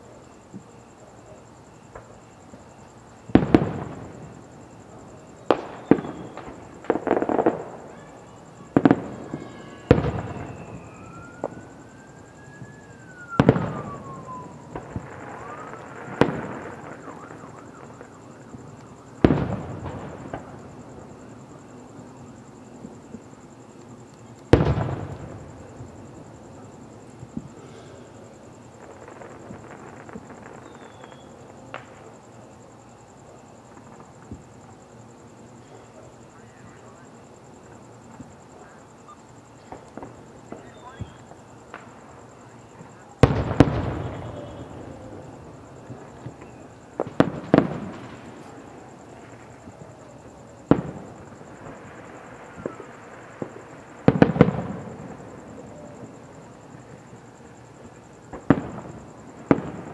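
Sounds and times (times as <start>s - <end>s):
fireworks crackling and popping: 0.2s - 32.6s, 33.4s - 59.9s.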